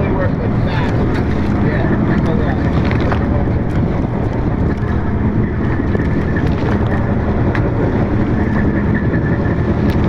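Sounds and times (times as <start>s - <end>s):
boat engine rumbling: 0.0s - 10.0s.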